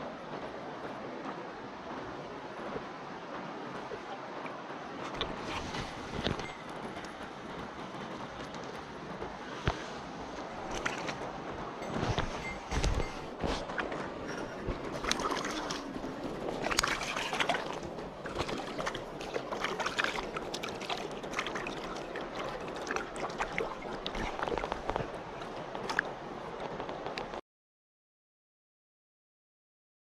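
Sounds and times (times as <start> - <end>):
mountain stream rushing: 0.0 - 27.4
water sloshing and splashing: 0.0 - 27.4.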